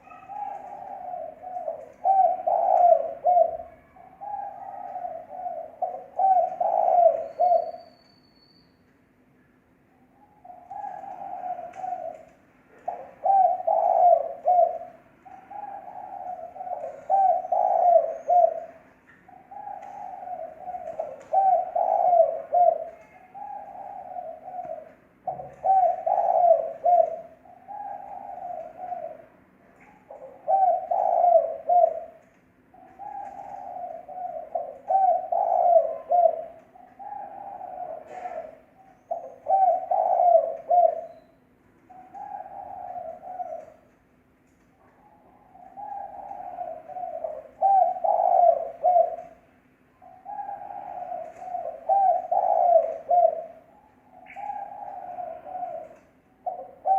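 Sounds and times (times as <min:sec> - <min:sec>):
dove cooing: 0:00.0 - 0:08.0, 0:10.2 - 0:56.9
faint steady hum: 0:00.0 - 0:56.9.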